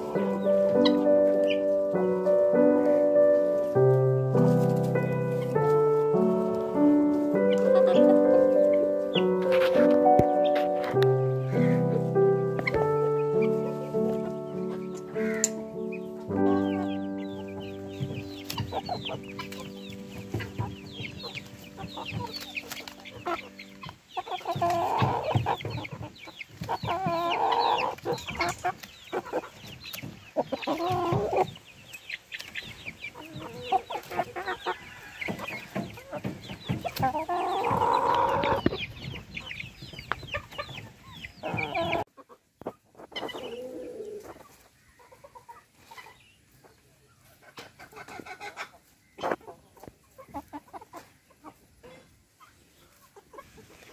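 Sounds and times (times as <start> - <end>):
chickens clucking and calling: 0.0 - 53.9.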